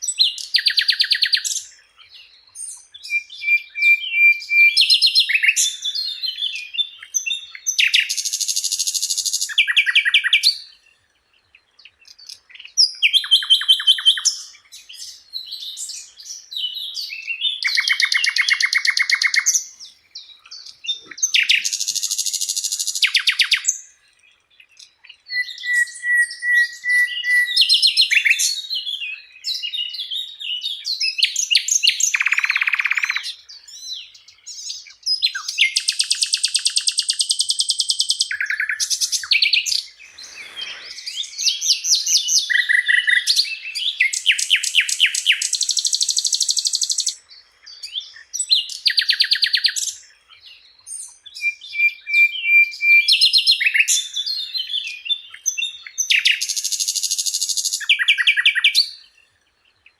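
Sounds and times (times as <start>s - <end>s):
flycatcher singing trills: 0.0s - 59.9s.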